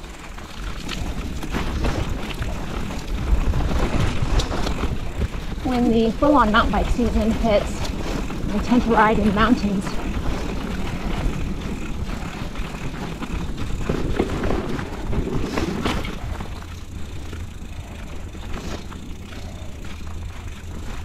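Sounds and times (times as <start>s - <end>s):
bike clicks and rattles: 0.0s - 21.0s
bike tyres on dirt: 0.0s - 21.0s
wind rumble on microphone: 0.6s - 21.0s.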